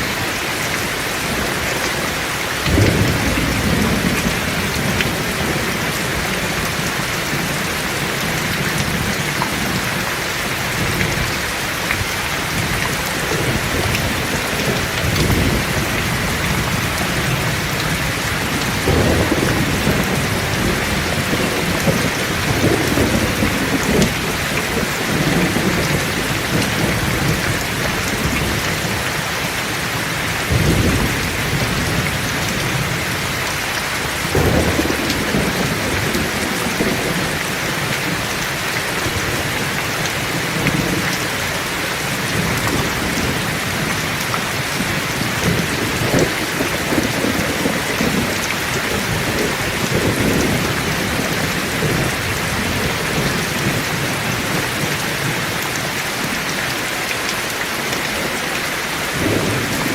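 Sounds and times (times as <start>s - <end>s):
thunder rumbling: 0.0s - 10.1s, 10.7s - 29.1s, 30.4s - 33.4s, 34.2s - 41.1s, 42.0s - 55.4s, 59.1s - 59.9s
heavy rain falling: 0.0s - 59.9s.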